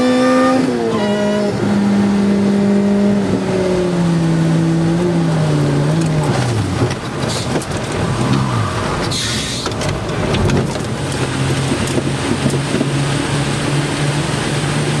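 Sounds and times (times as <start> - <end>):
car engine driving: 0.0 - 15.0.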